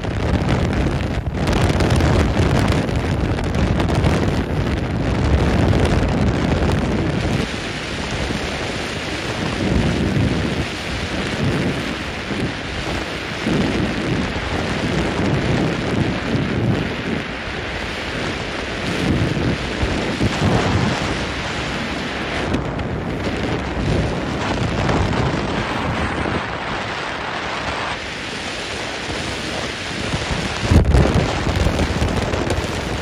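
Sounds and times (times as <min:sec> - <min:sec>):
water rushing past hull: 0:00.0 - 0:33.0
wind buffeting microphone: 0:00.0 - 0:33.0.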